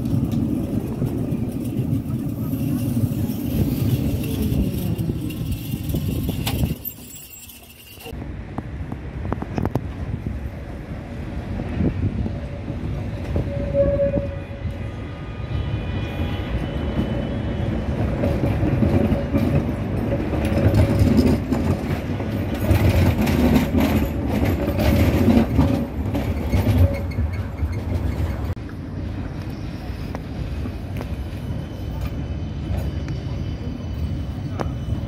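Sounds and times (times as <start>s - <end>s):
tram wheels rumbling on rails: 0.0s - 35.0s.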